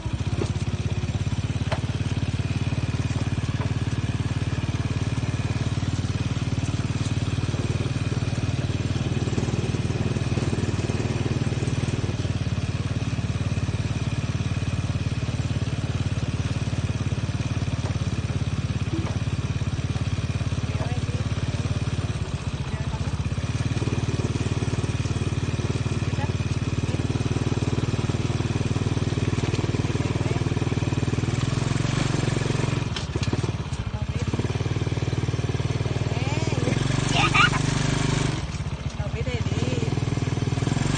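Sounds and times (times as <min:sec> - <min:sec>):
small motorcycle engine running: 0:00.0 - 0:40.9.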